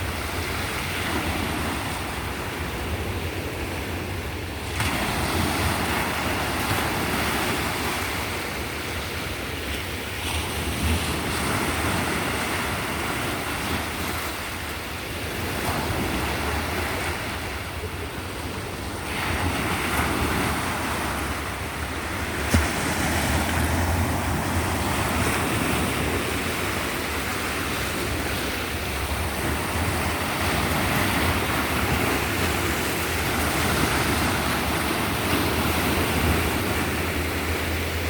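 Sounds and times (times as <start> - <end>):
waves breaking on shore: 0.0 - 38.0.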